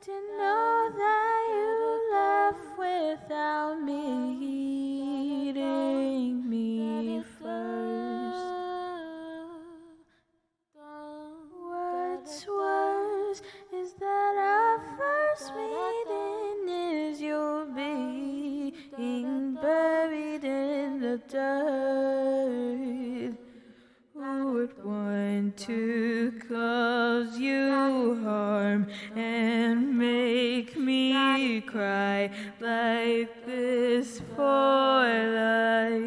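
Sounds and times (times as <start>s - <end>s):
woman singing: 0.0s - 10.1s, 10.8s - 23.5s, 24.2s - 36.0s.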